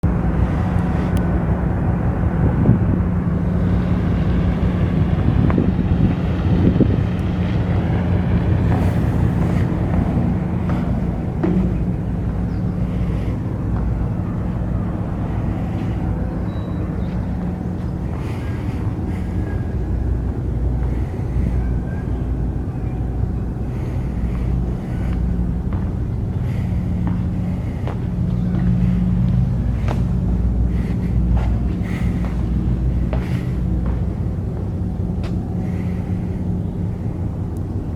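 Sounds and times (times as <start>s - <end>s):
heavy machinery humming: 0.0s - 37.9s.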